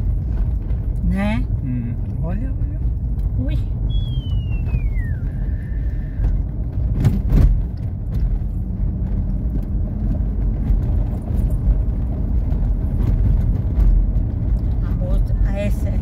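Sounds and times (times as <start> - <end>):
car cabin road rumble: 0.0 - 16.0.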